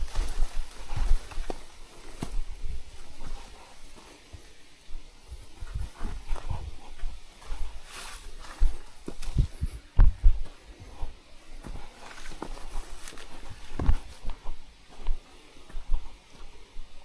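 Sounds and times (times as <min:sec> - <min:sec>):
faint rustling: 0:00.0 - 0:17.0
footsteps on a trail: 0:00.0 - 0:17.0.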